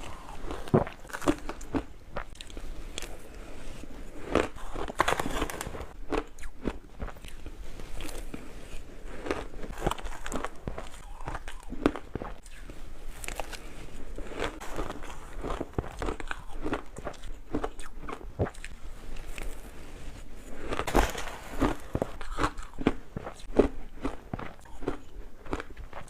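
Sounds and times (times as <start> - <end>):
person chewing crunchy ice: 0.0 - 19.7, 20.4 - 26.0.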